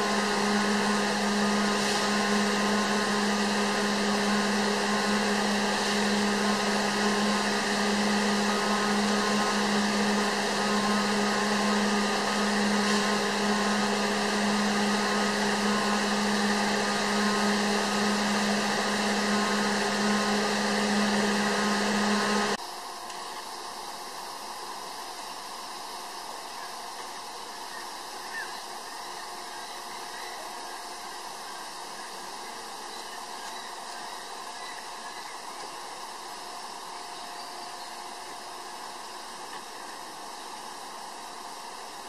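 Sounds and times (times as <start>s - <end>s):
machine humming with low drone: 0.0s - 42.0s.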